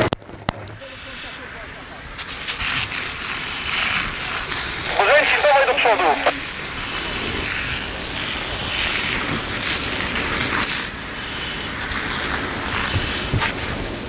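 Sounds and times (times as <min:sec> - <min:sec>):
fire hose water jet hissing: 0:00.6 - 0:14.0.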